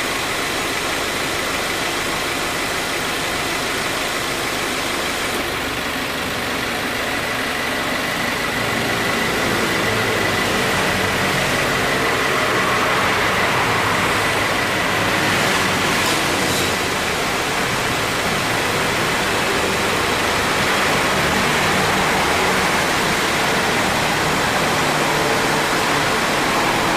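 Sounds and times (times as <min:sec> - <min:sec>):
air conditioning compressor whine: 0:00.0 - 0:26.9
car engine idling: 0:00.0 - 0:26.9.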